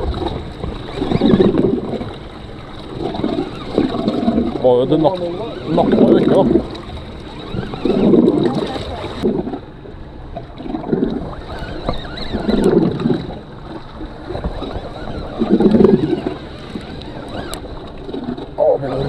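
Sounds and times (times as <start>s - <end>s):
wind on microphone: 0.0s - 9.8s, 10.6s - 19.0s
water lapping against hull: 0.0s - 19.0s.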